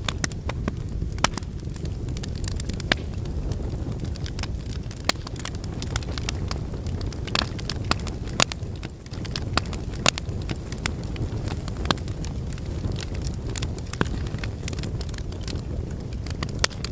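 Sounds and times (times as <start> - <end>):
logs crackling and popping: 0.0 - 16.9
low rumble of flame: 0.0 - 16.9.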